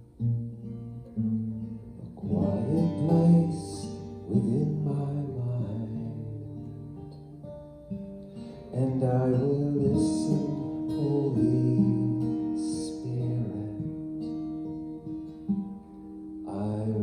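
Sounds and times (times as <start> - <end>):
slow acoustic guitar: 0.0 - 17.0.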